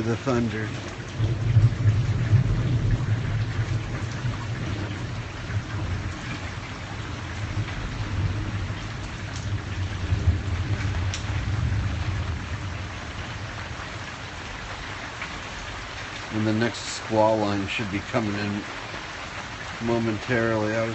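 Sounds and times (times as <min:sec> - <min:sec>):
low rumble of thunder: 0:00.0 - 0:20.9
steady rain falling: 0:00.0 - 0:20.9.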